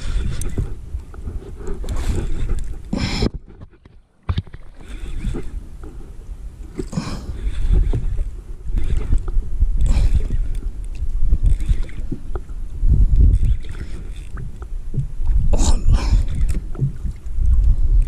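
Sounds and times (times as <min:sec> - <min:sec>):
sea around a boat: 0:00.0 - 0:18.0
wind rumbling on microphone: 0:00.0 - 0:18.0.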